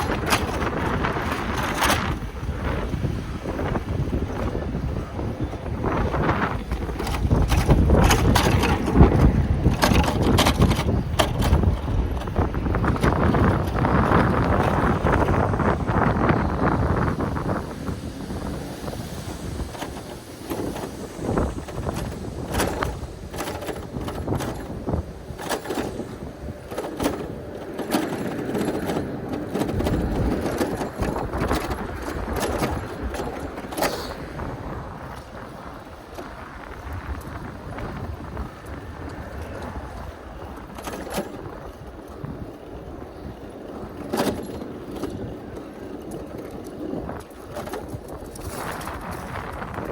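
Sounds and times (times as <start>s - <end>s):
bicycle clicks and rattles: 0.0s - 49.9s
traffic: 0.0s - 49.9s
wind buffeting microphone: 0.0s - 49.9s.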